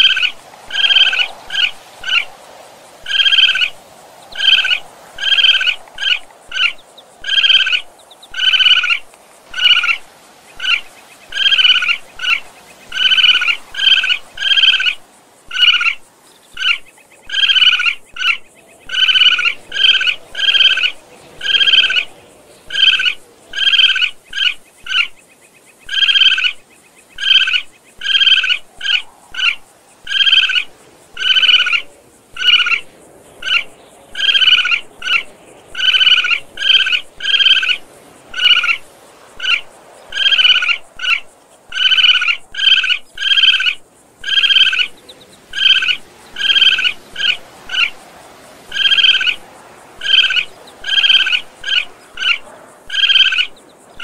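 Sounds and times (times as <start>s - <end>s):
raccoon chirping: 0.0s - 2.3s, 3.1s - 3.7s, 4.3s - 10.0s, 10.6s - 22.1s, 22.7s - 25.2s, 25.8s - 26.6s, 27.2s - 32.8s, 33.4s - 38.8s, 39.4s - 47.9s, 48.7s - 49.4s, 50.0s - 53.6s.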